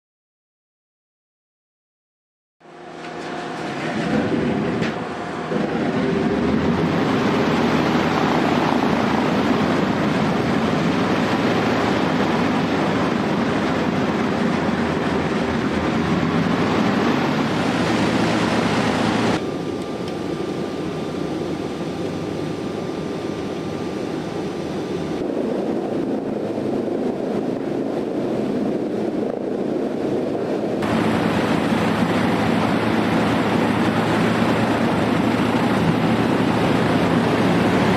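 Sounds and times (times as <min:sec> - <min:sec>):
piston aircraft engines droning: 0:02.6 - 0:37.9.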